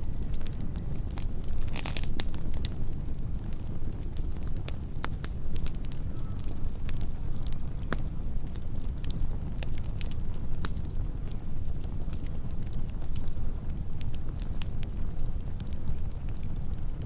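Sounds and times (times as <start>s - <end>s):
campfire crackling and popping: 0.0s - 17.0s
cricket chirping: 0.0s - 17.0s.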